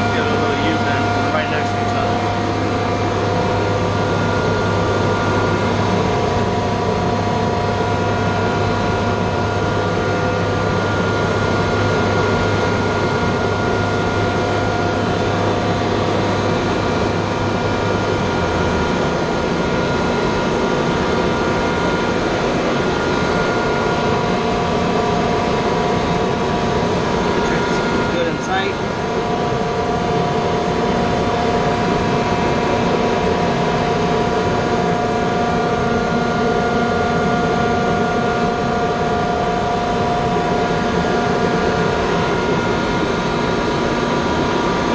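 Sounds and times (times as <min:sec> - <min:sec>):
low hum: 0:00.0 - 0:44.9
machinery drone: 0:00.0 - 0:44.9
whining tones: 0:00.0 - 0:44.9.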